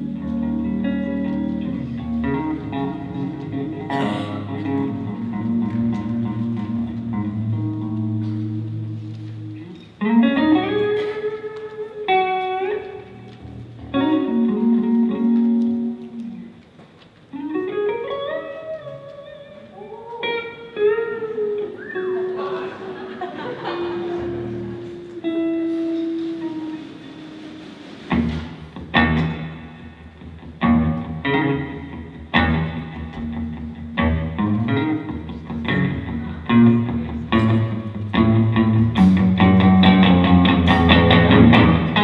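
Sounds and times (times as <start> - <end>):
electric guitar chords: 0.0 - 42.0
lead guitar line: 0.0 - 42.0.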